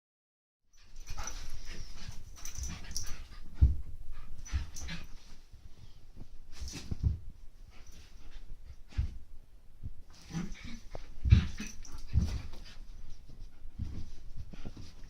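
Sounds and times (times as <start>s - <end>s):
puppies scuffling and thumping: 0.7s - 15.0s.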